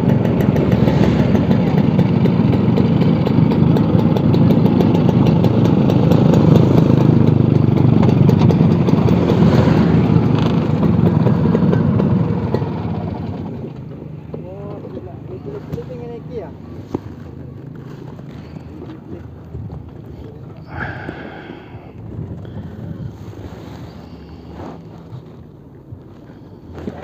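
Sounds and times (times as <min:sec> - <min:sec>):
scooter engine running: 0:00.0 - 0:27.0.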